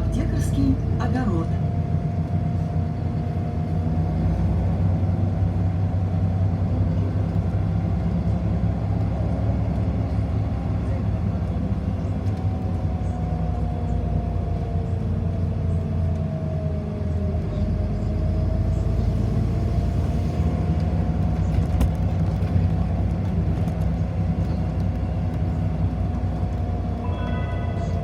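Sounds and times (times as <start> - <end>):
bus cabin drone with whine: 0.0 - 28.0.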